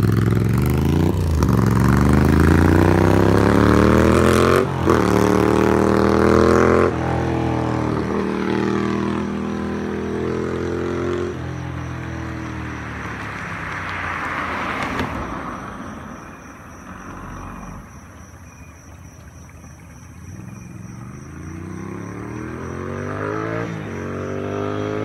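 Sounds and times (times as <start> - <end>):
motorcycle accelerating: 0.0 - 25.0
vehicle passing: 0.0 - 25.0.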